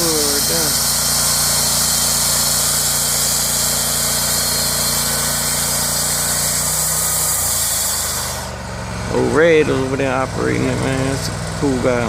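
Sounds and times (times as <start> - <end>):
engine droning: 0.0 - 12.0
saw blade cutting log: 0.0 - 12.0.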